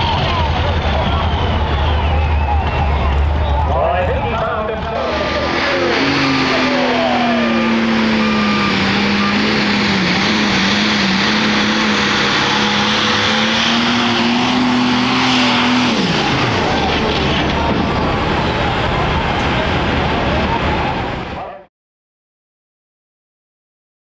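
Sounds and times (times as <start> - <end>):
roar of tyres and track: 0.0 - 21.7
tractor diesel engine at full throttle: 0.0 - 21.7.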